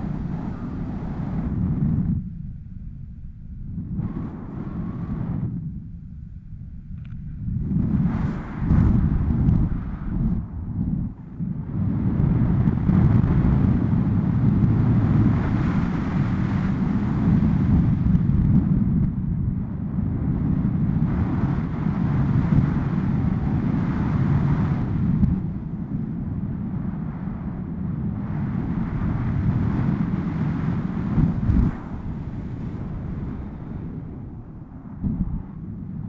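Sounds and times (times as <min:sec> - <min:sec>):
wind rumble on microphone: 0:00.0 - 0:36.0.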